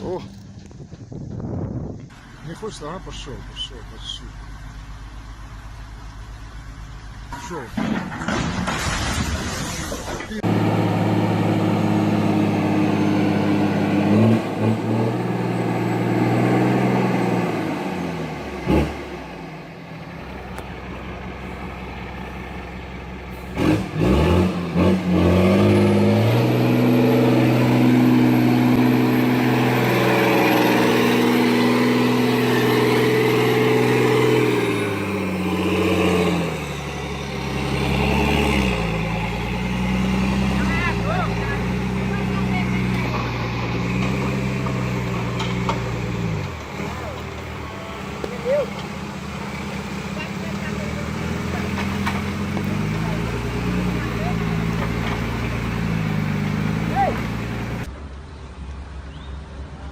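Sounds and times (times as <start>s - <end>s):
heavy vehicle engines running: 0.0s - 59.9s.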